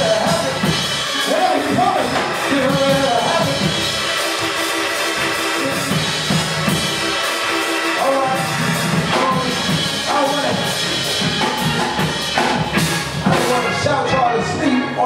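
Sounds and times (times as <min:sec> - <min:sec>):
band playing gospel music: 0:00.0 - 0:15.0
drum kit beat: 0:00.0 - 0:15.0
sustained keyboard chords: 0:00.0 - 0:15.0.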